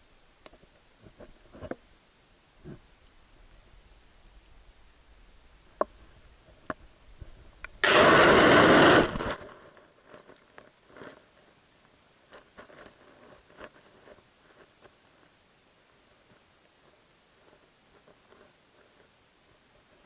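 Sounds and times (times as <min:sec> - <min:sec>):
faint ticks and rustles: 0:00.0 - 0:07.8, 0:09.2 - 0:20.0.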